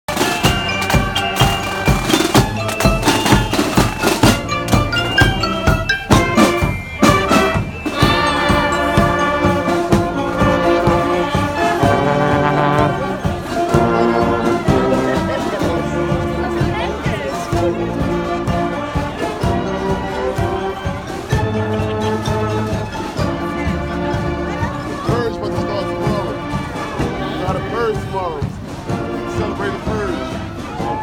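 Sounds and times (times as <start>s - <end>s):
drumming: 0.1s - 31.0s
held brass notes: 0.1s - 31.0s
marching band playing: 0.1s - 31.0s.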